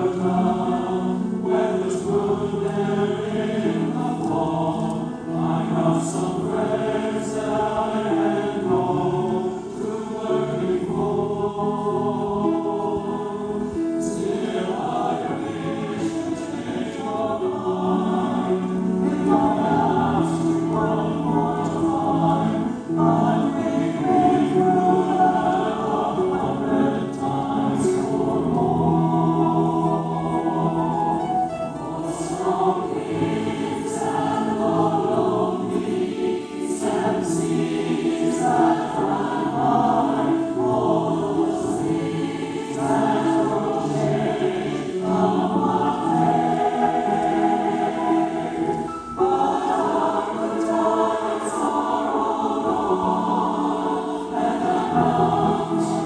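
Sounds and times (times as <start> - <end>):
keyboard accompaniment: 0.0 - 56.0
mixed choir singing: 0.0 - 56.0.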